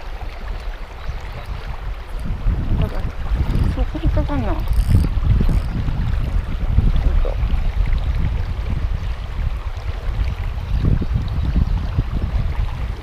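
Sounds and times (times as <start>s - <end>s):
river current rushing: 0.0s - 13.0s
wind buffeting microphone: 0.0s - 13.0s.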